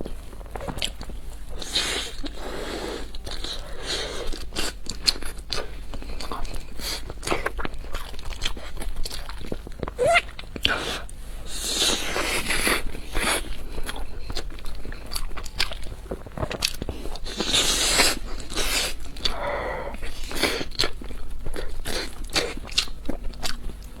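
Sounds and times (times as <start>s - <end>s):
crunching and chewing food: 0.0s - 24.0s.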